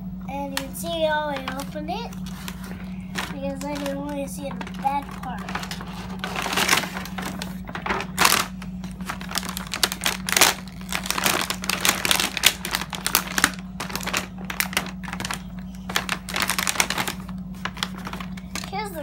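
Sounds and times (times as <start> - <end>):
low hum: 0.0 - 19.0
plastic packaging crinkling: 0.5 - 19.0.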